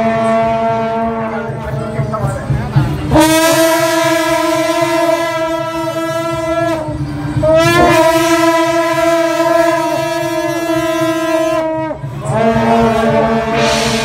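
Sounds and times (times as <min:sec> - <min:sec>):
loud horn held notes: 0:00.0 - 0:14.0.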